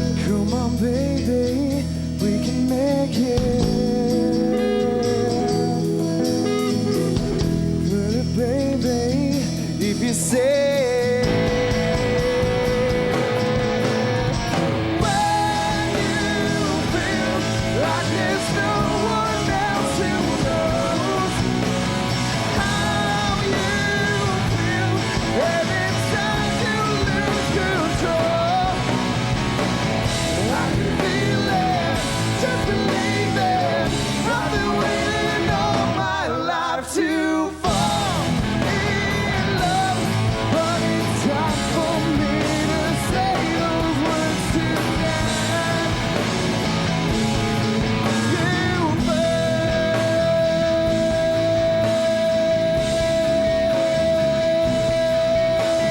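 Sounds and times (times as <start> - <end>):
lead vocal singing: 0.0 - 55.9
rock band playing: 0.0 - 55.9.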